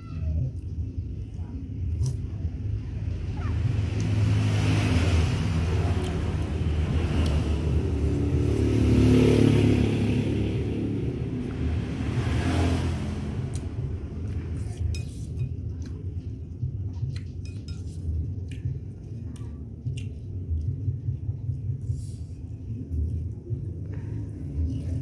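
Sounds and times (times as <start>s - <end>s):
vehicle engine rumbling: 0.7s - 25.0s.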